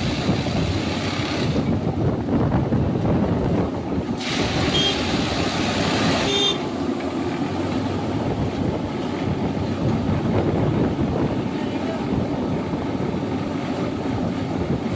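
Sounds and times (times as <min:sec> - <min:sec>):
track machine running: 0:00.0 - 0:14.9.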